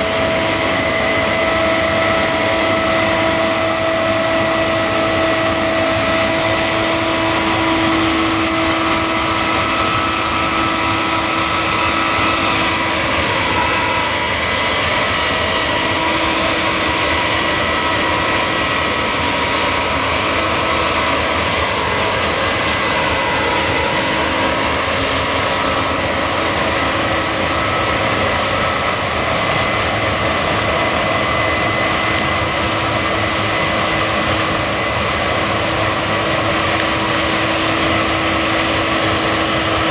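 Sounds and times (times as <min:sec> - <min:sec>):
combine harvester droning: 0:00.0 - 0:39.9
high machinery whines: 0:00.0 - 0:39.9.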